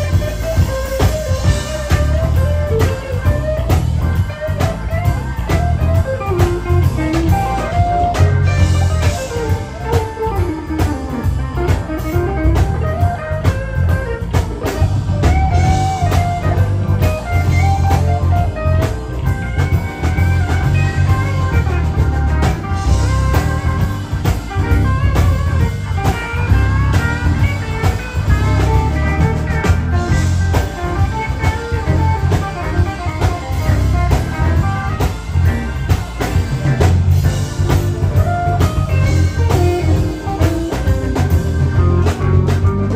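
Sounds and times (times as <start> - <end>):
bass guitar: 0.0 - 42.9
drum kit: 0.0 - 42.9
electric guitar lead lines: 0.0 - 42.9.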